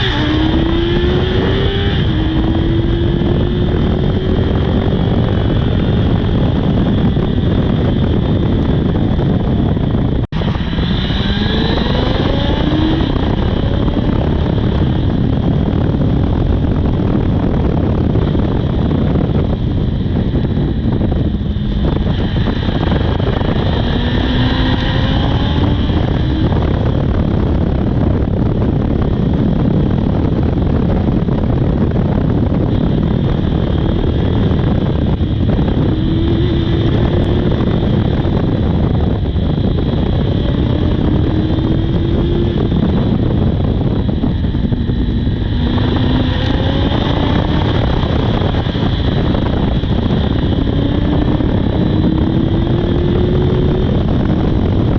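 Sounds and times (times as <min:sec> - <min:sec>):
motorcycle engine accelerating: 0:00.0 - 0:54.9
wind noise on microphone: 0:00.0 - 0:54.9.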